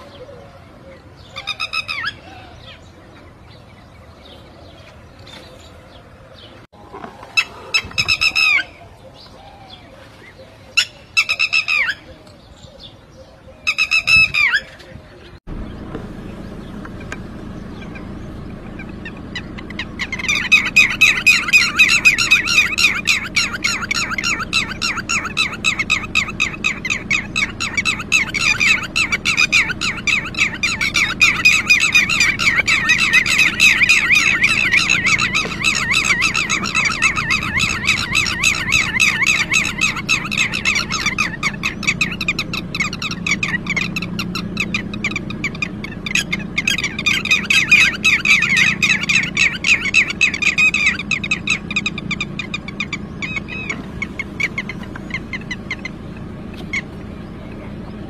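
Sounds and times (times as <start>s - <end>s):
lapwing alarm calls: 0.0s - 58.0s.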